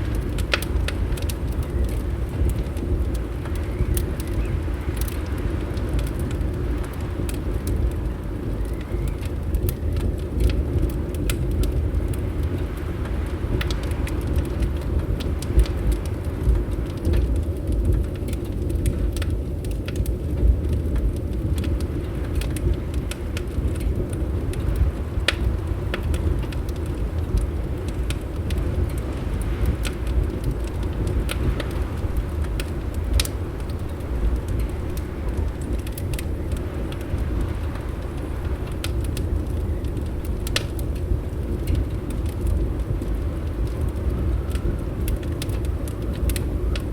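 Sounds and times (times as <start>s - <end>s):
fireplace crackling and popping: 0.0s - 46.9s
low rumble of wind: 0.0s - 46.9s.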